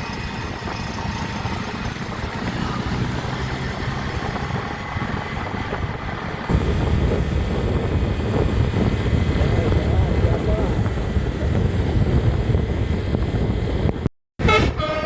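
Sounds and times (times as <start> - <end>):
vehicle engine running: 0.0 - 14.1.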